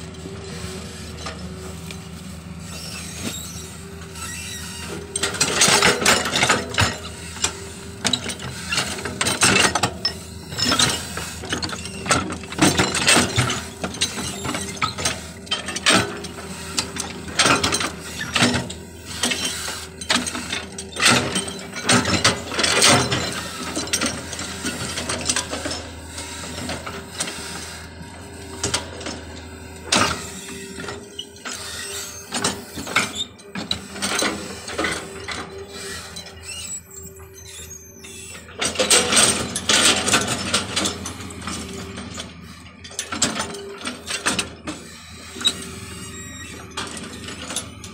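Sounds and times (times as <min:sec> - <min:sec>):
excavator engine and hydraulic drone: 0:00.0 - 0:47.9
metallic clanks and scrapes: 0:00.4 - 0:47.9.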